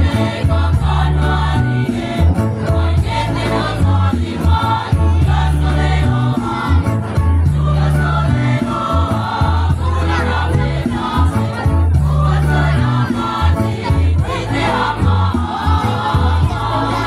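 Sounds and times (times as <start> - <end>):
choir singing in parts: 0.0 - 17.0.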